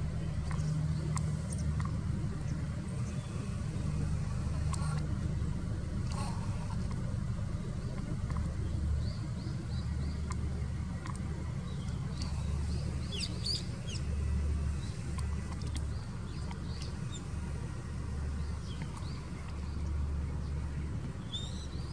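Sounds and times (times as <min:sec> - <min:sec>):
songbird chirps: 0:00.0 - 0:21.9
steady low rumble: 0:00.0 - 0:21.9.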